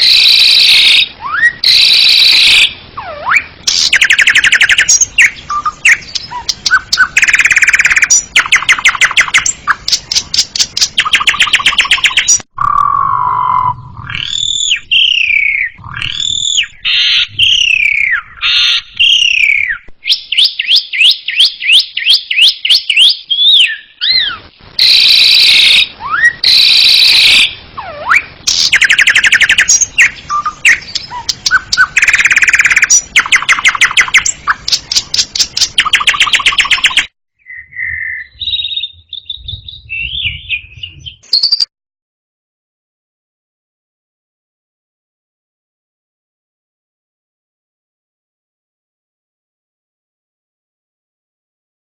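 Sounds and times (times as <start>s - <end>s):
starling singing trills and whistles: 0.0s - 41.7s.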